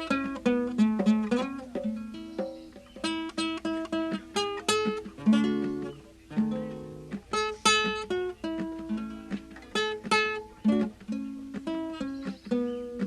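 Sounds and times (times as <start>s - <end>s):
plucked acoustic string instrument: 0.0s - 13.0s.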